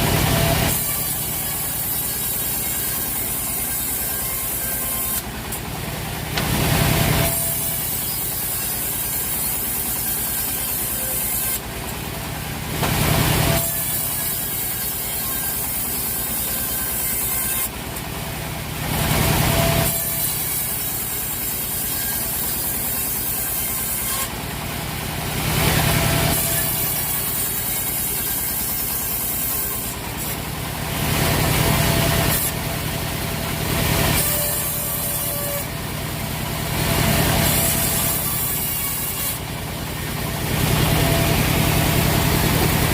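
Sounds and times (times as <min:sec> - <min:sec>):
sawmill machinery drone: 0:00.0 - 0:42.9.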